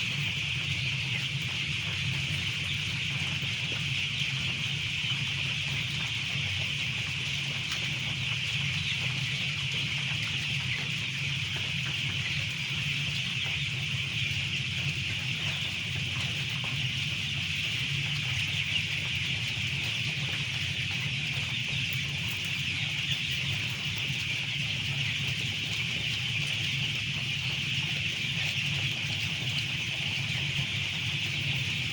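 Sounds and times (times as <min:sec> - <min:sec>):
chickens chirping: 0:00.0 - 0:31.9.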